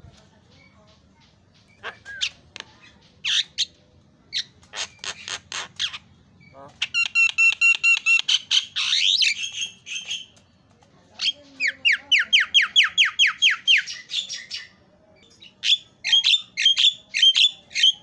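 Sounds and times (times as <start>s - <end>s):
myna bird calling: 0.1s - 10.4s, 11.2s - 18.0s
harsh bird chattering: 0.4s - 10.4s, 11.2s - 18.0s.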